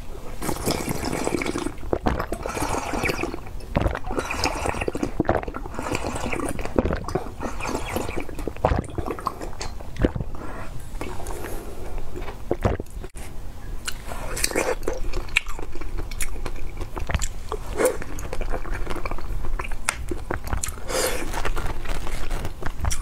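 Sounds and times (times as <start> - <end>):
slurping and swallowing: 0.3 - 13.2, 13.8 - 23.0.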